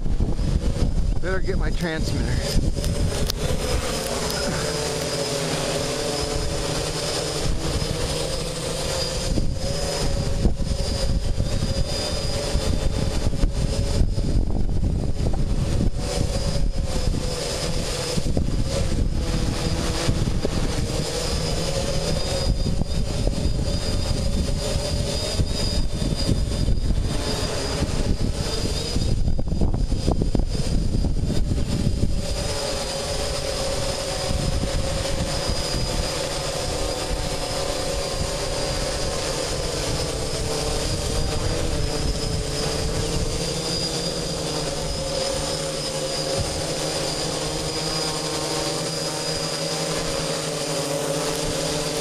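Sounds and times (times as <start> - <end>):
wind buffeting microphone: 0.0 - 45.3
drone propellers whining: 0.0 - 52.0.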